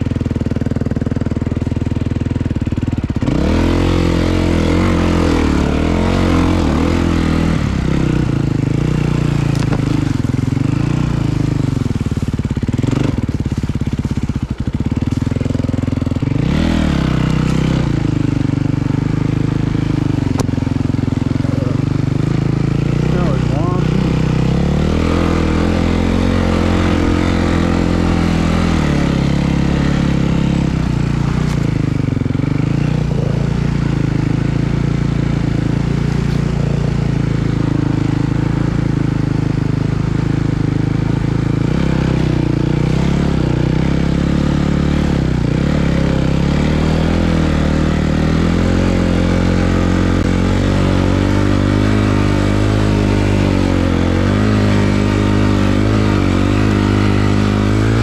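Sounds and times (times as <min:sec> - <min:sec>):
snowbike engine running: 0:00.0 - 0:58.0.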